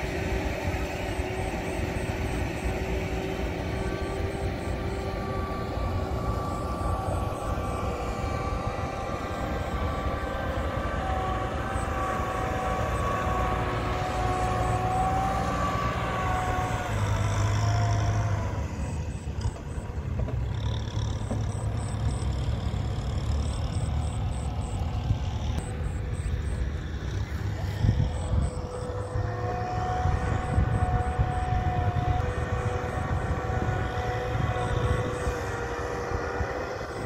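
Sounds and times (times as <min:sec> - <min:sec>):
diesel engines low rumble: 0:00.0 - 0:37.0
high whining tone: 0:00.0 - 0:37.0.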